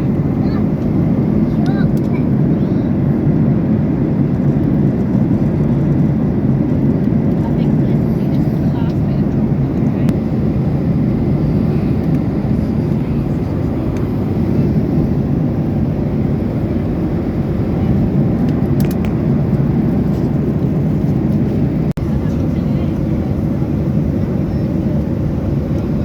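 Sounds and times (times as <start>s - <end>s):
airplane cabin engine rush: 0.0s - 26.0s.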